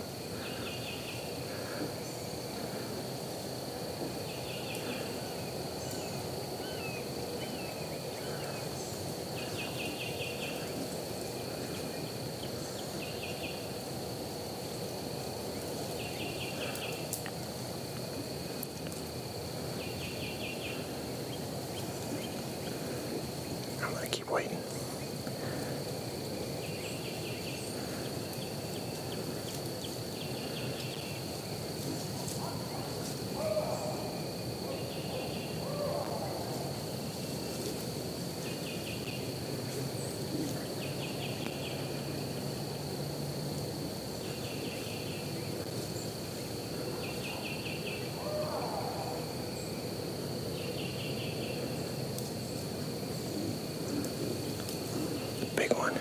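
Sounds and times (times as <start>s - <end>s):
high thin insect drone: 0.0s - 56.0s.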